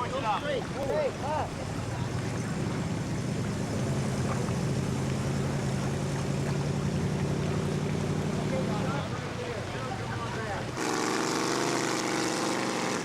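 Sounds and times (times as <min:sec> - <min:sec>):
racing boat engine running: 0:00.0 - 0:13.0.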